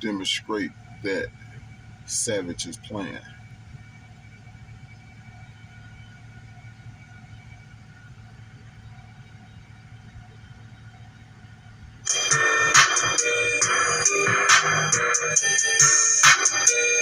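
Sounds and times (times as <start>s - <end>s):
car engine idling: 0.0s - 17.0s
faint steady tones: 0.0s - 17.0s.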